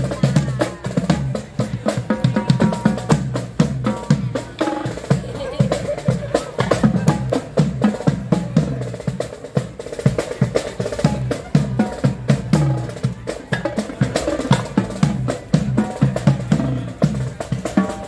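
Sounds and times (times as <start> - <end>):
marching snare and tenor drums: 0.0 - 18.0.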